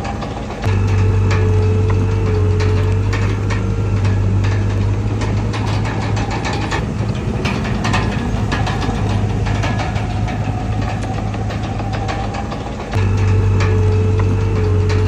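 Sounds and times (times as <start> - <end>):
bulldozer diesel engine running: 0.0 - 15.0
metallic clanks and clicks: 0.0 - 15.0.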